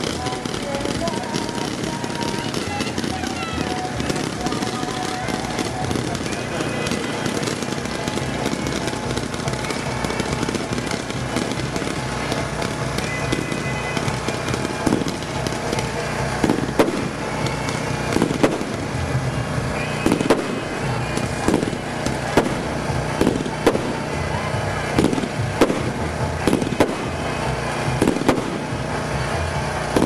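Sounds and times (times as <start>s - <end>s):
fireworks bangs: 0.0s - 30.0s
fireworks crackling and hissing: 0.0s - 30.0s.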